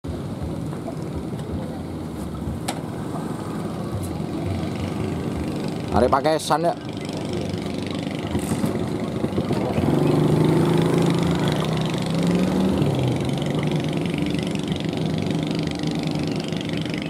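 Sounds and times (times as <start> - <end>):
boat engine running: 0.1 - 17.0.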